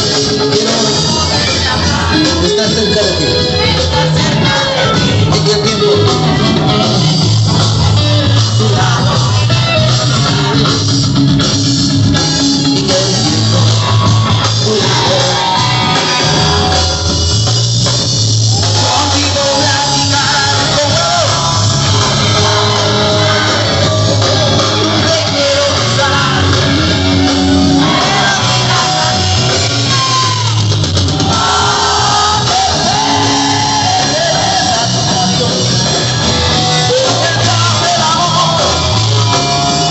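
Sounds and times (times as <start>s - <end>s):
male singer singing: 0.0s - 6.7s, 7.5s - 10.6s, 12.2s - 17.0s, 18.6s - 30.6s, 31.4s - 39.9s
drums: 0.0s - 39.9s
electric guitar: 0.0s - 39.9s.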